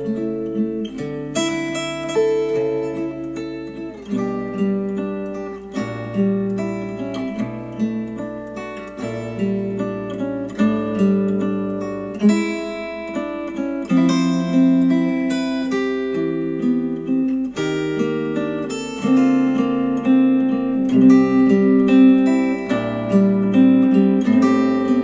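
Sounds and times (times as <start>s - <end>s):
acoustic guitar chords over speakers: 0.0s - 25.0s.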